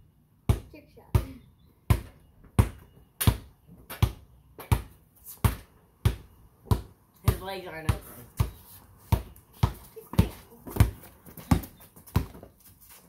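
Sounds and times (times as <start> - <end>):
basketball bouncing on concrete: 0.4 - 12.6.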